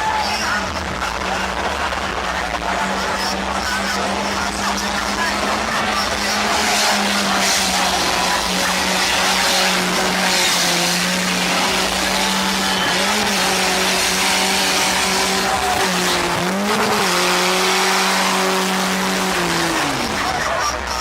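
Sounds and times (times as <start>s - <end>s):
car engine at high revs: 0.0s - 21.0s
tyres squealing: 3.2s - 21.0s.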